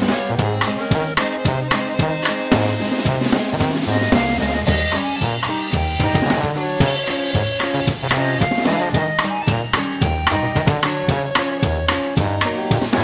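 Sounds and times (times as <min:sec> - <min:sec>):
drum kit beat: 0:00.0 - 0:13.0
recorded song with bass line: 0:00.0 - 0:13.0.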